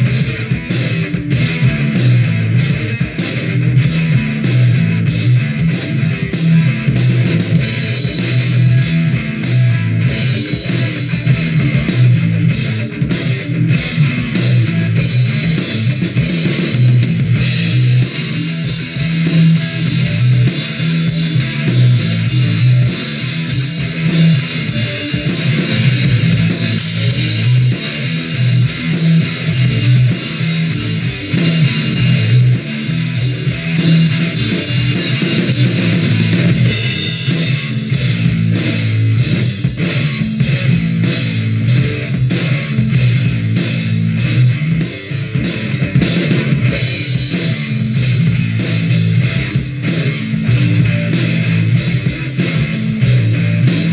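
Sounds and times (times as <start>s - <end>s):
drum kit with cymbals: 0.0s - 53.9s
electric guitar: 0.0s - 53.9s.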